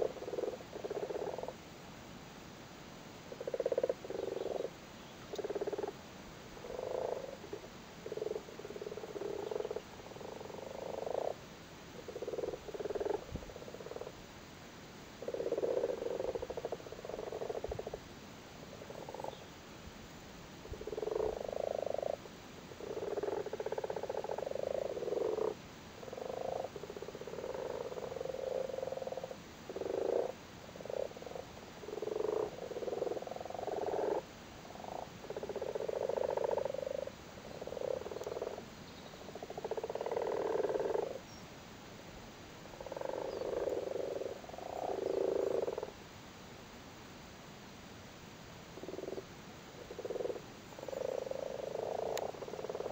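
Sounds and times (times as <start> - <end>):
frogs croaking chorus: 0.0 - 1.7, 3.3 - 14.3, 15.1 - 19.6, 20.5 - 41.6, 42.5 - 46.2, 48.6 - 52.9.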